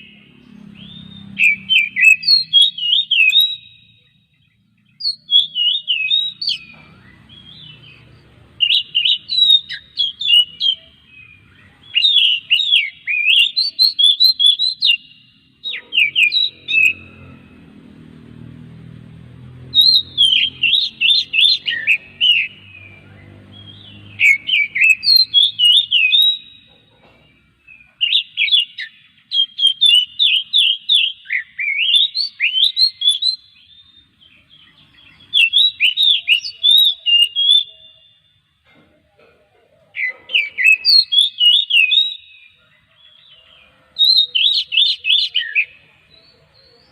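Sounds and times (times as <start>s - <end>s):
bird singing whistled notes: 0.0s - 17.6s, 19.6s - 38.5s, 40.0s - 46.9s.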